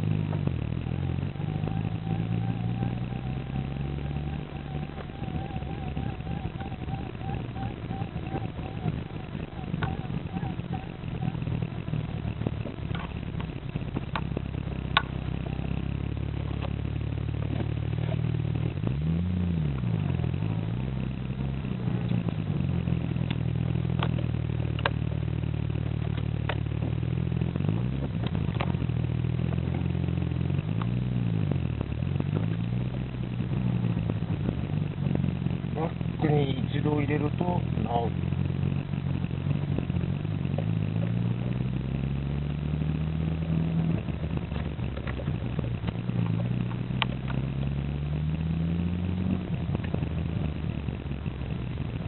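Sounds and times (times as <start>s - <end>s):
car engine and road hum: 0.0s - 52.0s
sharp ticks in car dashboard: 0.2s - 15.8s, 21.8s - 35.4s, 36.0s - 52.0s.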